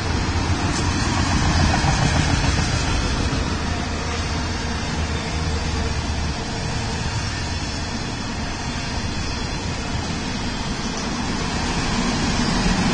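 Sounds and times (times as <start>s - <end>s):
steel train wheels on rail: 0.0s - 12.9s.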